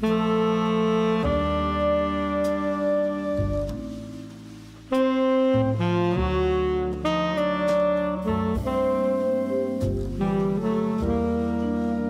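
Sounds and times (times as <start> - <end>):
background instrumental music: 0.0 - 12.0.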